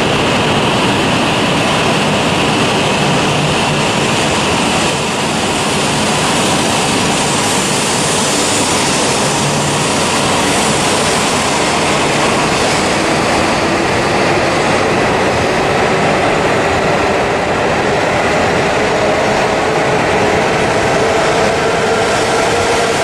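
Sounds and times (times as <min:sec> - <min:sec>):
train wheel and air rush: 0:00.0 - 0:23.0.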